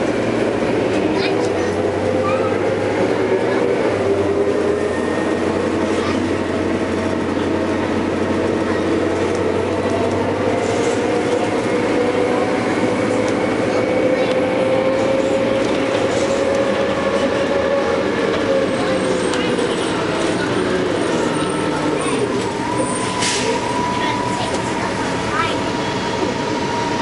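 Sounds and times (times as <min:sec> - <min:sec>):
bus engine drone with whine: 0:00.0 - 0:27.0.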